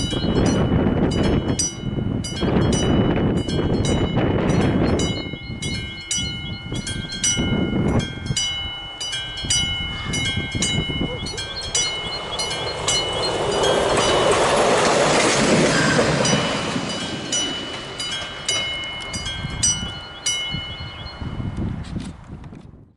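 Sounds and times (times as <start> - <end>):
level-crossing bell ringing: 0.0 - 21.6
train running over crossing: 0.0 - 21.8.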